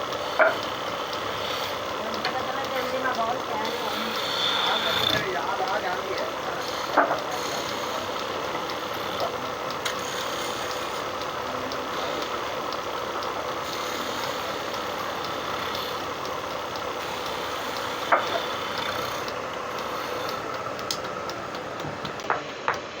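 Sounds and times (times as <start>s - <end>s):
faint regular ticking: 0.0s - 22.8s
steady mechanical running noise: 0.0s - 23.0s.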